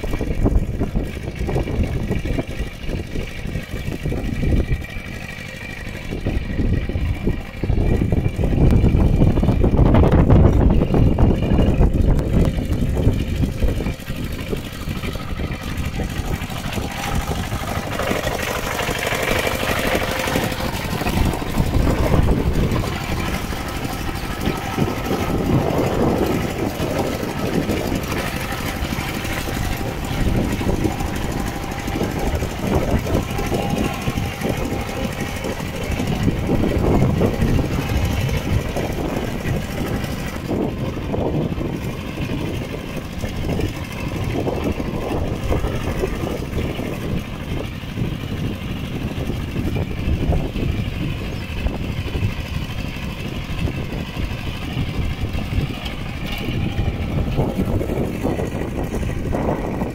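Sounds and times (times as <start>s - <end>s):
diesel engine knocking: 0.0s - 59.9s.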